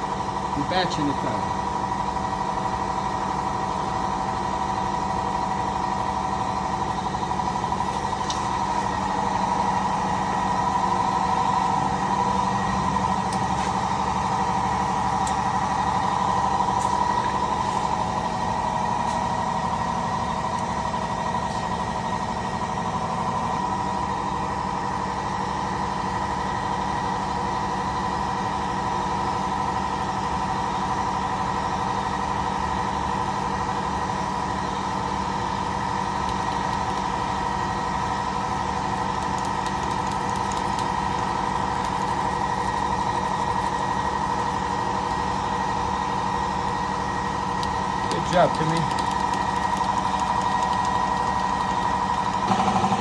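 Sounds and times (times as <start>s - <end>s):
steady mechanical drone: 0.0s - 53.0s.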